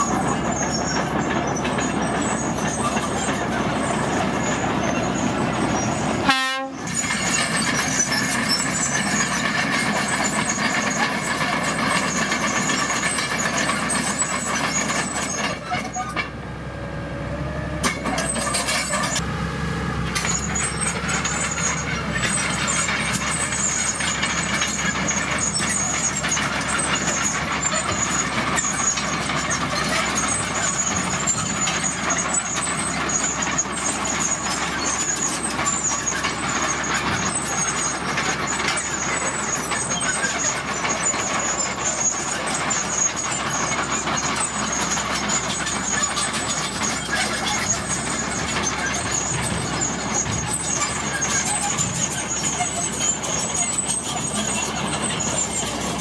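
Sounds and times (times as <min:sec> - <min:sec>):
bulldozer engine: 0:00.0 - 0:56.0
diesel truck engine running: 0:00.0 - 0:56.0.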